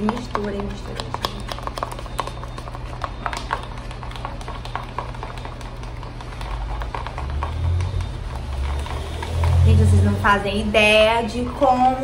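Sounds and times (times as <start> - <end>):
spatula scraping plastic bowl: 0.0 - 10.7.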